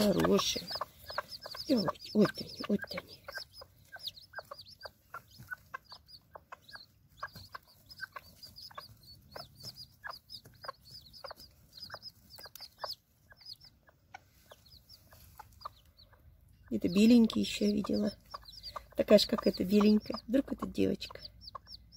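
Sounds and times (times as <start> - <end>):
chicks peeping: 0.0 - 21.9
hen clucking: 0.0 - 21.9.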